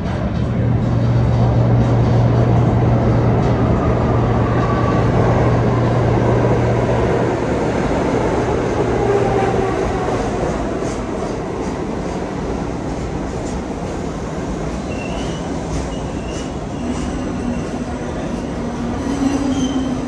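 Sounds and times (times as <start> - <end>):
subway train wheels rumbling: 0.0 - 20.0.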